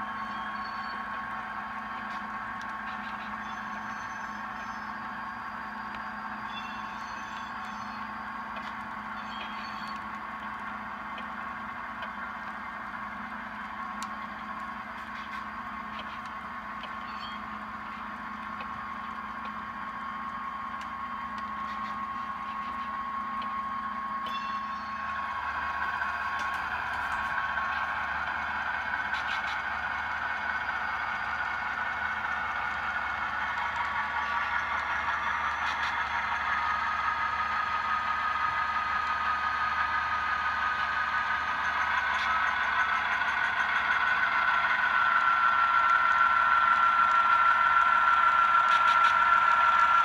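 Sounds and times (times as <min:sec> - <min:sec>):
model diesel engine sound: 0:00.0 - 0:50.0
model train clatter on track: 0:00.0 - 0:50.0.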